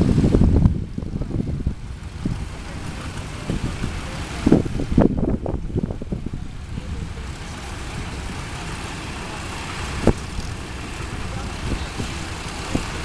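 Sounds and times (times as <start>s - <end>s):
truck engine running low: 0.0s - 13.0s
wind rumbling on microphone: 0.0s - 13.0s.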